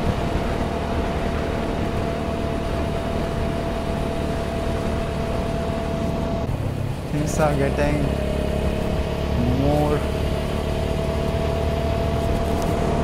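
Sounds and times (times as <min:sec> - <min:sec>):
motorcycle engine cruising: 0:00.0 - 0:13.0
thin steady whine: 0:00.0 - 0:13.0
wind and road noise: 0:00.0 - 0:13.0.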